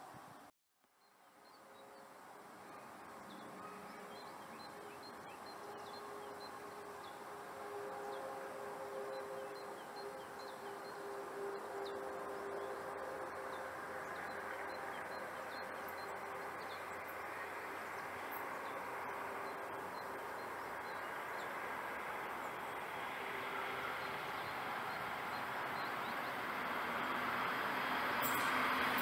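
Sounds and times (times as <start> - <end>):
train approaching on track: 1.3 - 29.0.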